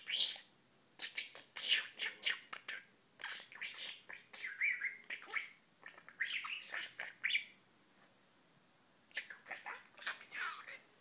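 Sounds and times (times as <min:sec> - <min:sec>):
budgerigar chattering: 0:00.0 - 0:07.6, 0:09.2 - 0:10.8.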